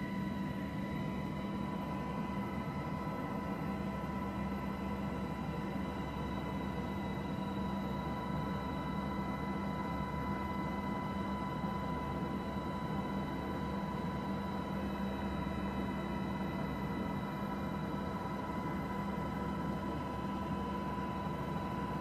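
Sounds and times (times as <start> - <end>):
constant high whine: 0.0 - 22.0.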